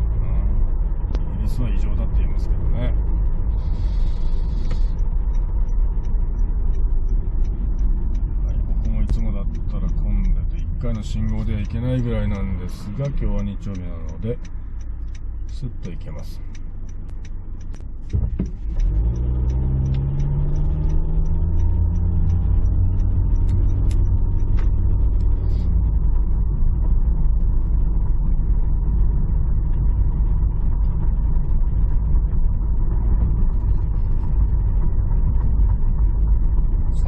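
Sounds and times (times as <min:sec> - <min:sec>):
car accelerating: 0:00.0 - 0:37.0
road noise: 0:00.0 - 0:37.0.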